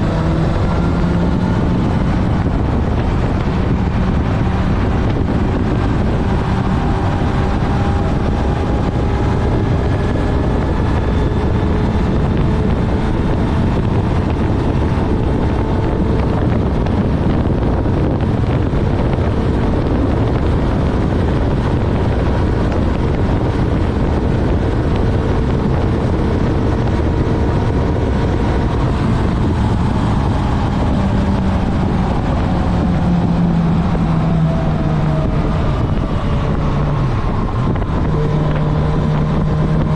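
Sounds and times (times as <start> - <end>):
deeper engine note falling: 0.0 - 39.9
motorcycle engine running: 0.0 - 39.9
wind rushing over microphone: 0.0 - 39.9.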